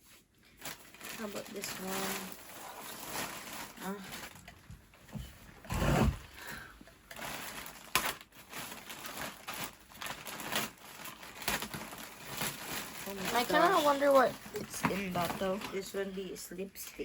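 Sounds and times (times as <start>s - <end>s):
packages rustling: 0.0s - 16.3s.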